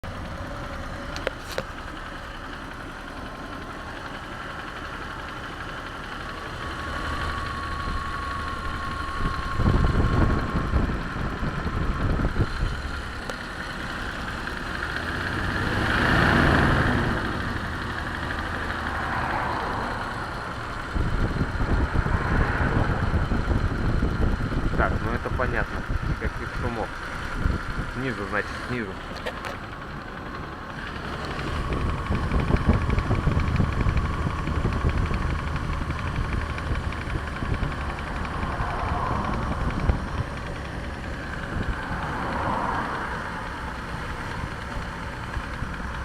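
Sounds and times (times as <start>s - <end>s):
car engine running with a knock: 0.0s - 46.0s.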